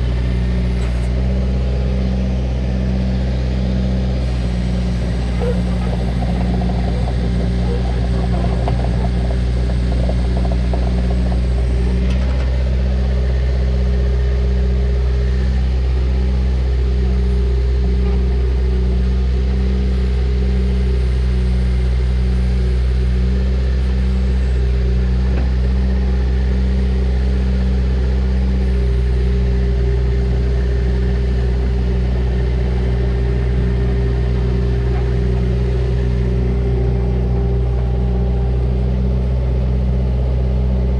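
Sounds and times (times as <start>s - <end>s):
diesel engine running with pulsing hum: 0.0s - 40.9s.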